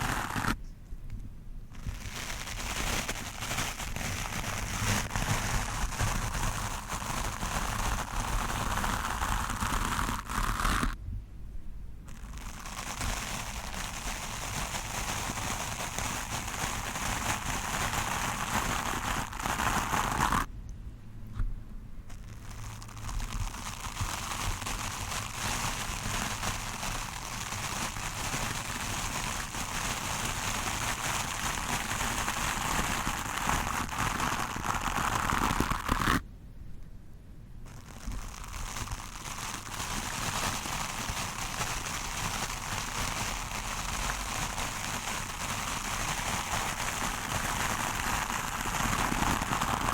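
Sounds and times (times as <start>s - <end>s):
brush scratching a microphone: 0.0s - 0.6s, 1.7s - 11.0s, 12.1s - 20.5s, 22.1s - 36.2s, 37.6s - 49.9s.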